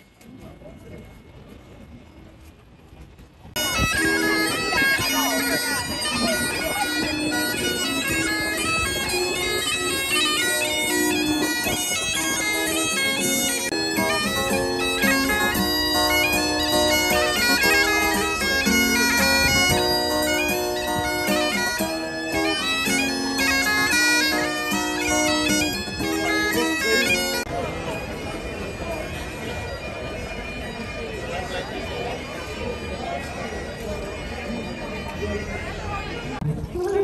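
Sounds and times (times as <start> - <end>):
bagpipes playing a tune: 3.6 - 36.4.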